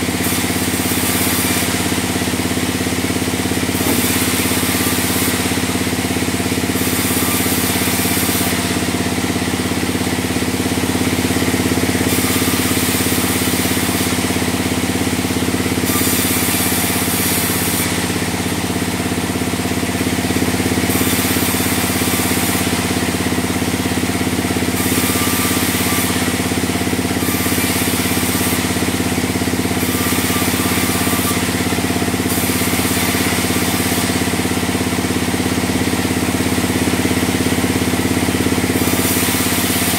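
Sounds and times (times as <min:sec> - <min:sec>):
band sawmill drone: 0:00.0 - 0:39.9
saw cutting hiss: 0:00.0 - 0:39.9.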